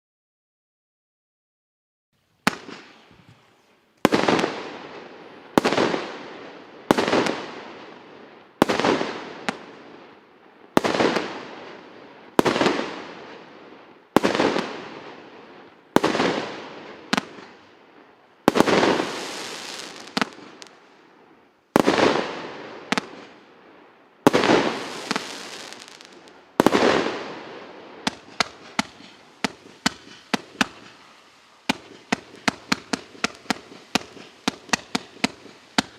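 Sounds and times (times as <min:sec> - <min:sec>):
fireworks bangs: 0:02.4 - 0:35.9.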